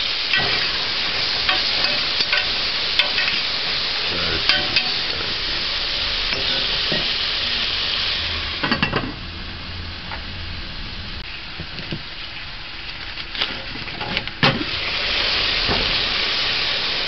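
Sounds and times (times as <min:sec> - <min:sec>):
meat sizzling: 0:00.0 - 0:17.0.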